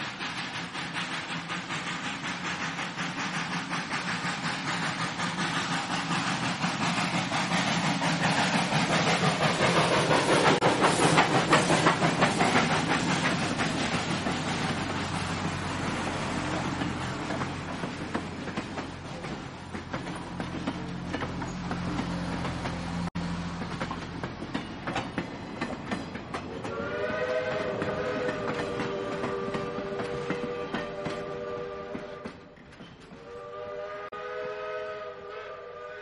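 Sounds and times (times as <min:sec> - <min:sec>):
steam locomotive chuffing: 0:00.0 - 0:36.0.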